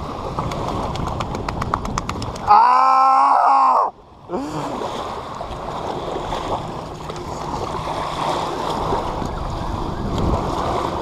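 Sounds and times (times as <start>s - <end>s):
water splashing and sloshing: 0.0s - 2.6s, 3.9s - 11.0s
wind rumbling on microphone: 0.0s - 3.2s, 3.8s - 11.0s.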